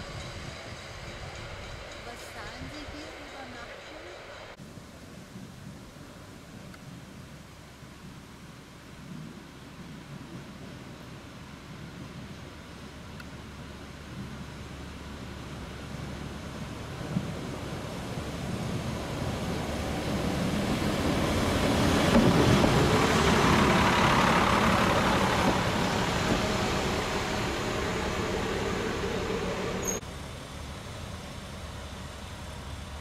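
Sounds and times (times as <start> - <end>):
diesel railcar passing: 0.0 - 6.6, 10.9 - 33.0.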